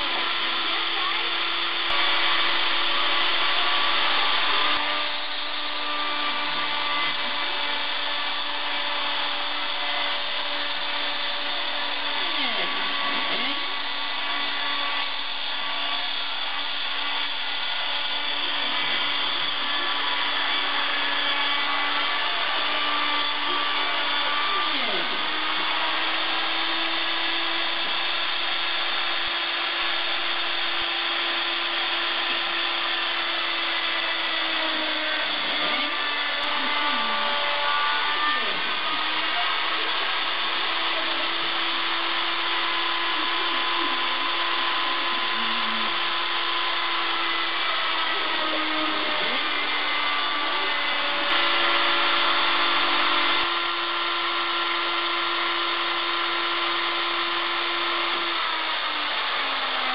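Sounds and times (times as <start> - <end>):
router spindle motor droning: 0.0 - 59.9
stepper motors whining: 0.0 - 59.9.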